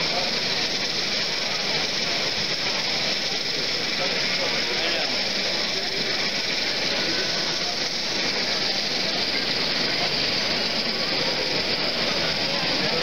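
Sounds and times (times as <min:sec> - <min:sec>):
busy hall din: 0:00.0 - 0:13.0
indistinct voices: 0:00.0 - 0:13.0.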